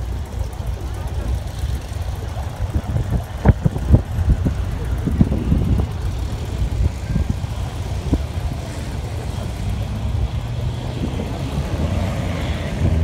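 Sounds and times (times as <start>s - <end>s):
car engines humming: 0.0s - 13.0s.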